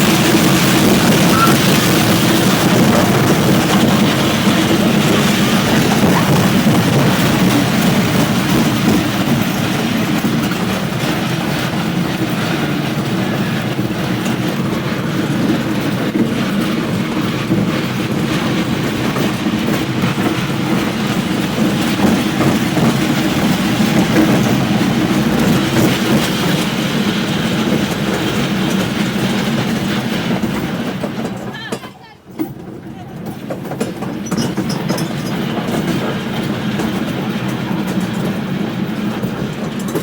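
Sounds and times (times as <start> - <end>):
train rumbling: 0.0 - 40.0
wheels clicking on rails: 0.0 - 40.0.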